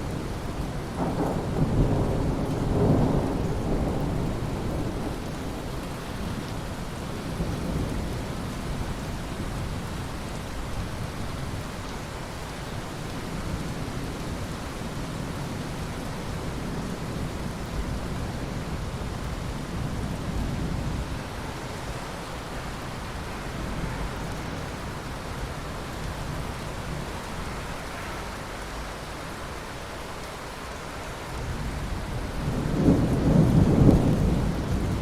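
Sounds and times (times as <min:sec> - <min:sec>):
low rumble of thunder: 0:00.0 - 0:11.8, 0:12.9 - 0:27.7, 0:31.4 - 0:35.0
steady rain: 0:00.0 - 0:35.0.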